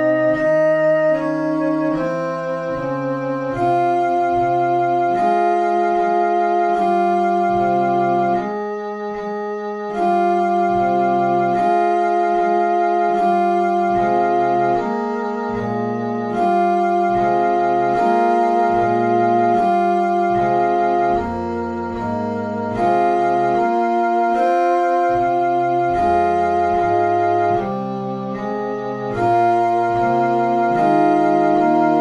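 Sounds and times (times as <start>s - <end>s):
organ-like keyboard chords: 0.0s - 32.0s.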